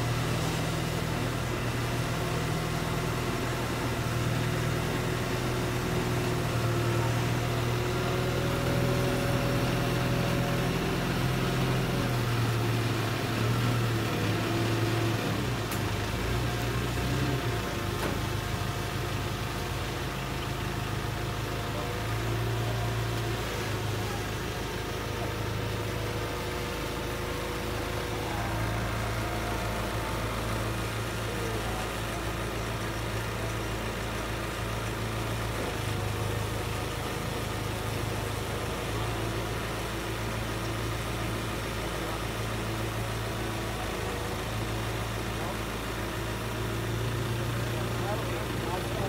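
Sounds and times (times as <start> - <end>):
forklift engine idling: 0.0 - 49.0.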